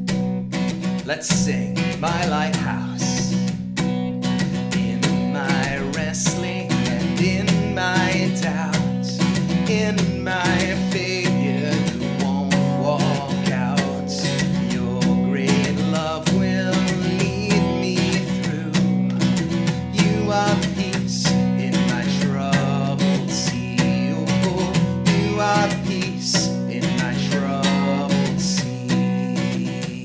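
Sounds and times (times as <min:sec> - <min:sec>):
worship song with acoustic guitar: 0:00.0 - 0:30.0.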